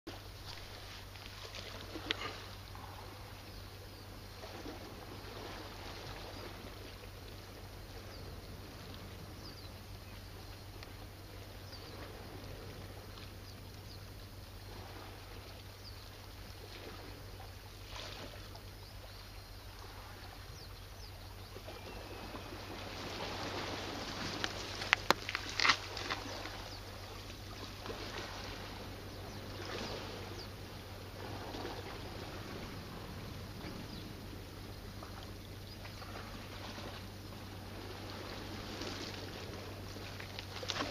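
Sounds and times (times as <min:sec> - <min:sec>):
low hum: 0:00.1 - 0:40.9
waves lapping on rocky shore: 0:00.1 - 0:40.9.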